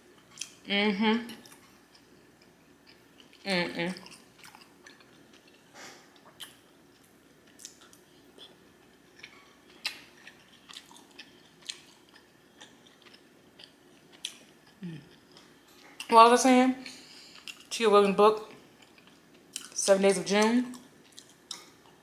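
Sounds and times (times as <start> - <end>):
person chewing food: 0.2 - 0.6, 1.3 - 16.1, 16.8 - 17.7, 18.5 - 19.8, 20.7 - 22.0.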